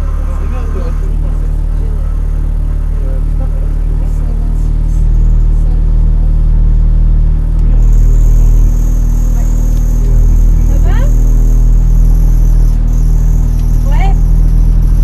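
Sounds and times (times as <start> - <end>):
car engine idling: 0.0 - 15.0
faint high whine: 0.0 - 15.0.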